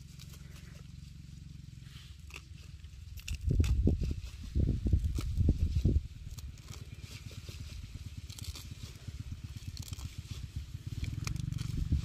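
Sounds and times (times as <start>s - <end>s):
plant stems crackling and tearing: 2.1s - 12.0s.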